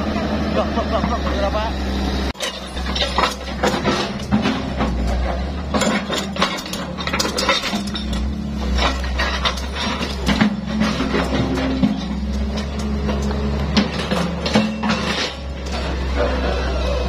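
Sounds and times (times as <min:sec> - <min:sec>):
excavator diesel engine running: 0:00.0 - 0:17.0
metallic clinks and knocks: 0:02.4 - 0:16.2.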